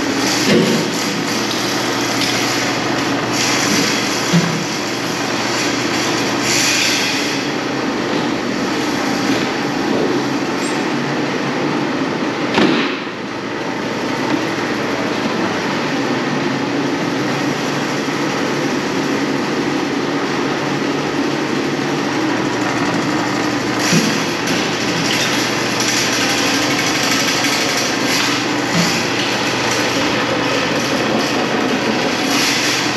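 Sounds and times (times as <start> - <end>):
drain cleaning machine running: 0.0 - 32.9.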